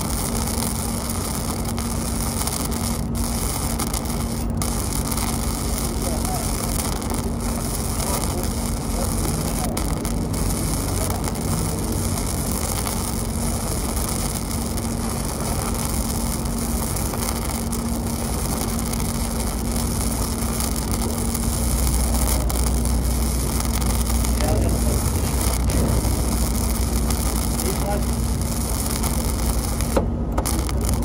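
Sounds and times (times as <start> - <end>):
constant low hum: 0.0 - 31.0
welding arc hissing: 0.0 - 31.0.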